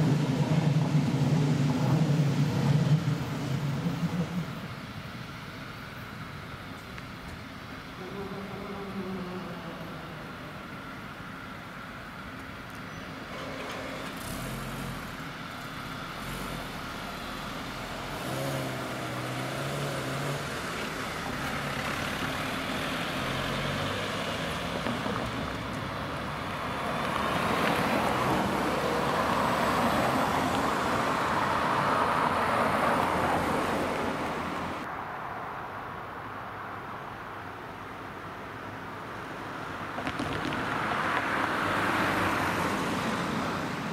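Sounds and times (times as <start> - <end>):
cars driving over railway tracks: 0.0 - 43.9
engine and tyre noise: 0.0 - 43.9.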